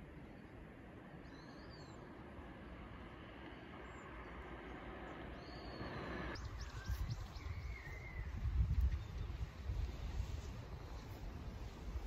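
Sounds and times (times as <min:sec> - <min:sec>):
noisy outdoor background: 0:00.0 - 0:12.0.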